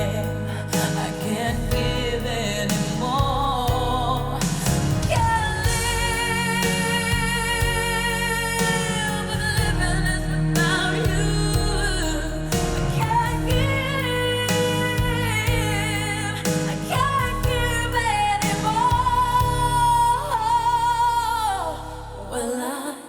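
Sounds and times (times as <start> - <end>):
song over loudspeakers: 0.0 - 23.0.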